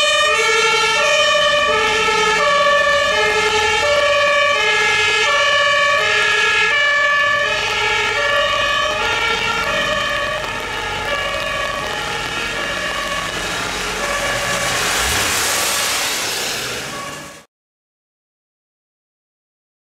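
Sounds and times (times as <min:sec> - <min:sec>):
two-tone fire engine siren: 0:00.0 - 0:17.5
tyres on wet road: 0:00.0 - 0:17.5.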